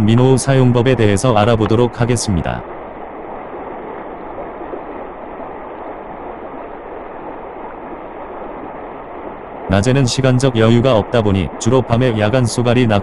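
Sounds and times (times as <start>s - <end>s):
water rushing over river riffle: 0.0s - 13.0s.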